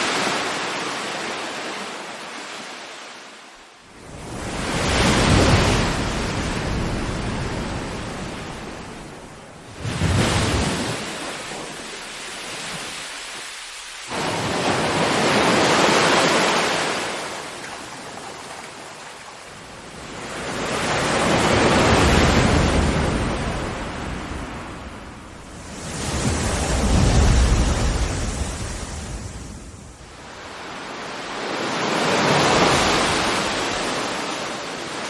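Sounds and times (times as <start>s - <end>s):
ocean waves breaking on shore: 0.0s - 35.0s.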